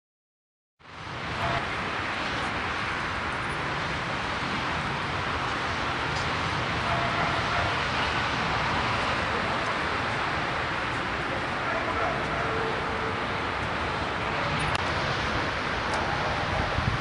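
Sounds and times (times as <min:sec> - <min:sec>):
steady rushing noise: 0:00.8 - 0:17.0.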